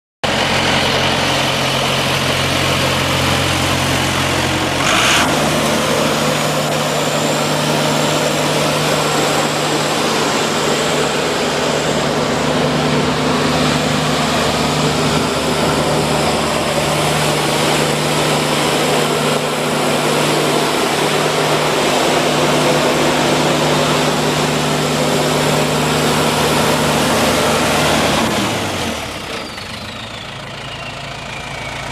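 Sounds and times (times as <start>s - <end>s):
diesel wood chipper engine: 0.2s - 31.9s.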